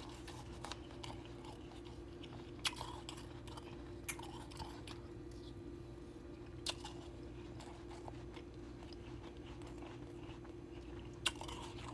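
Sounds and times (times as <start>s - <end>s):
ice cubes being chewed: 0.0s - 5.6s, 6.4s - 11.9s.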